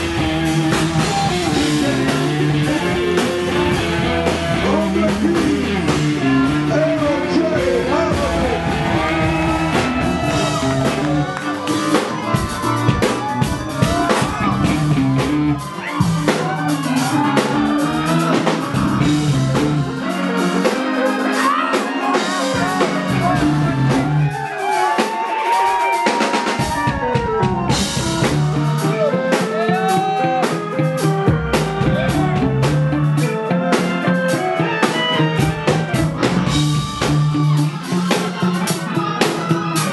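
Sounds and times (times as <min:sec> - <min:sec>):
person singing: 0:00.0 - 0:15.0, 0:15.6 - 0:39.9
funk band playing: 0:00.0 - 0:39.9.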